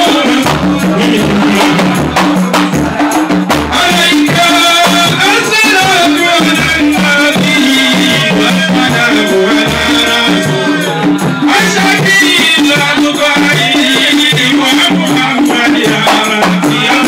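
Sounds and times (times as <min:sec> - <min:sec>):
frame drums beaten: 0:00.0 - 0:17.0
man singing into a microphone: 0:00.0 - 0:17.0.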